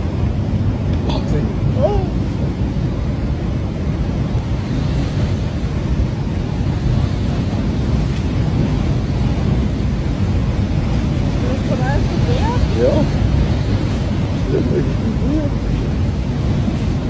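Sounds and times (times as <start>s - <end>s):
mud flow rushing rumble: 0.0s - 17.0s.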